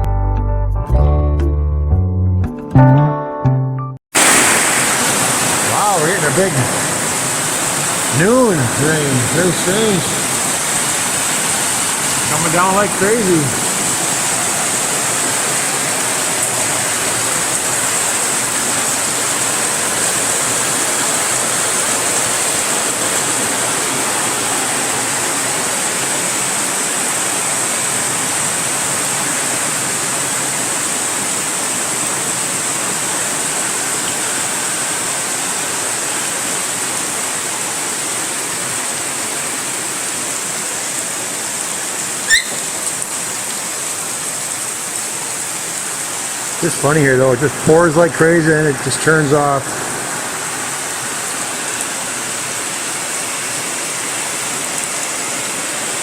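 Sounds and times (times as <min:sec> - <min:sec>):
heavy rain pouring: 0:04.1 - 0:56.0.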